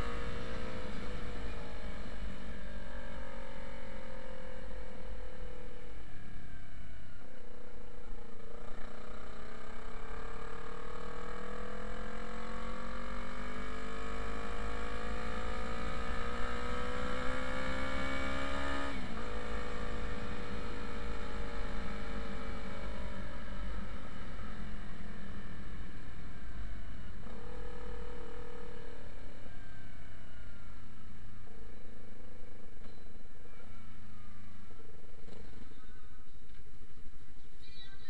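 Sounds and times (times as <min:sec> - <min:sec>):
motorcycle engine: 0:00.0 - 0:37.3.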